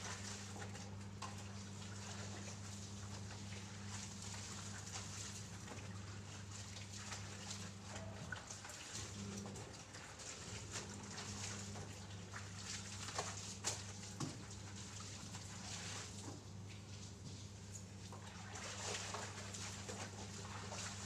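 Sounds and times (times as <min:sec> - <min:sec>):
water splashing at a tap: 0:00.0 - 0:21.0.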